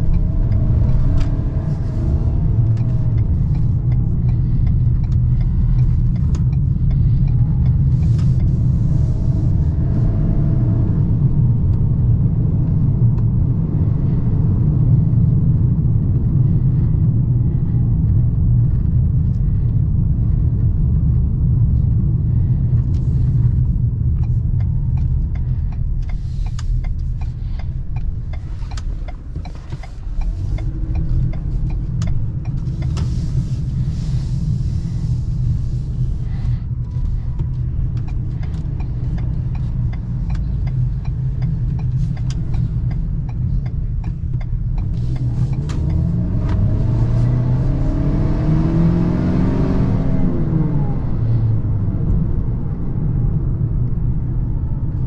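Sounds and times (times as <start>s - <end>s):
pickup engine and road noise: 0.0s - 55.0s.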